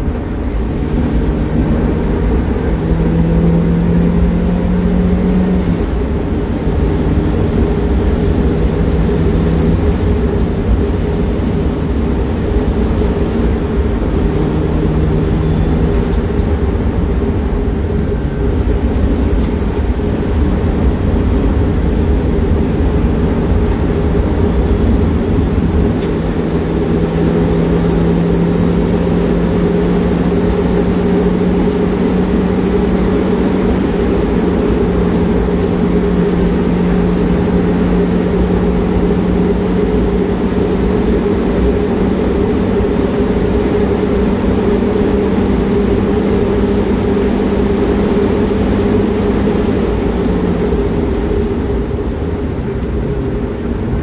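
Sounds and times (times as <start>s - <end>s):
car engine droning: 0.0s - 54.0s
road and wind noise: 0.0s - 54.0s.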